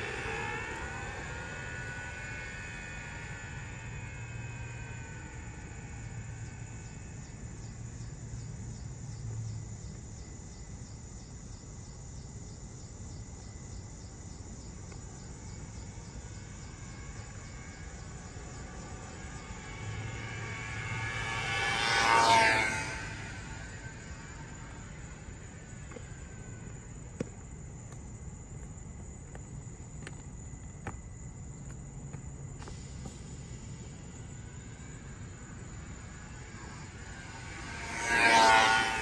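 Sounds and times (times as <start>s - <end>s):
low hum: 0.0s - 10.1s, 15.1s - 39.0s
insects chirping: 0.0s - 39.0s.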